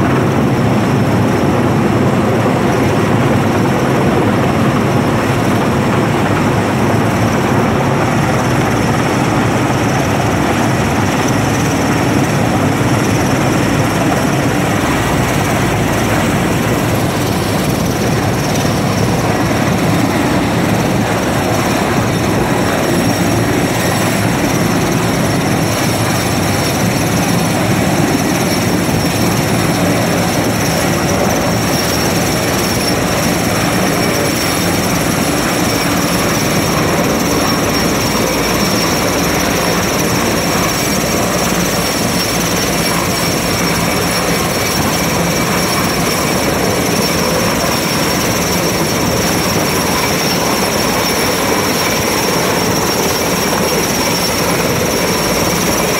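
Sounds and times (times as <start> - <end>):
helicopter rotor and turbine din: 0.0 - 55.9
thin high turbine whine: 0.0 - 55.9.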